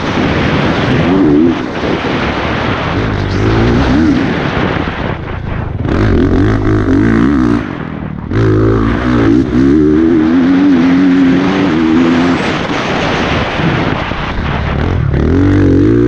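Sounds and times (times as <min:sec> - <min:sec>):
motocross engine revving: 0:00.1 - 0:16.0.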